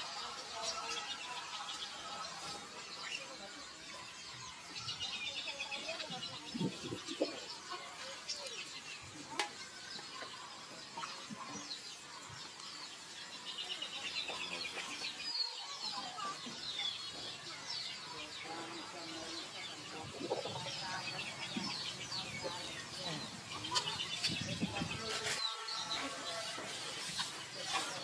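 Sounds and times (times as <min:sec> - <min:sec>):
birds chirping and twittering: 0:00.0 - 0:28.0.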